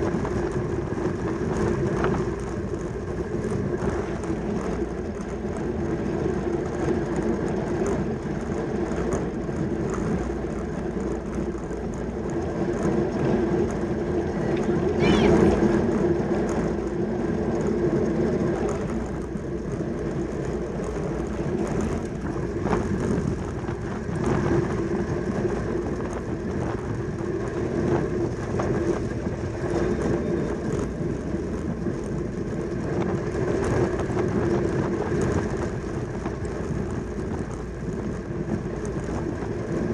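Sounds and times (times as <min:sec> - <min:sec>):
bicycles rolling rumble: 0:00.0 - 0:39.9
low hum: 0:00.0 - 0:39.9
wind noise: 0:00.0 - 0:39.9.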